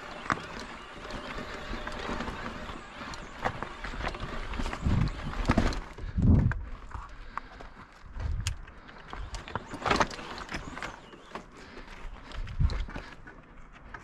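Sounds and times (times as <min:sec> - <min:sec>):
bike clattering over stones: 0:00.0 - 0:07.0, 0:07.6 - 0:13.3
footsteps on rocky ground: 0:00.0 - 0:14.0.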